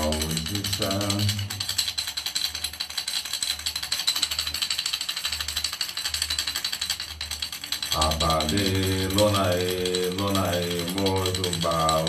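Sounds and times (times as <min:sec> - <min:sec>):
rattle shaken fast: 0:00.0 - 0:12.0.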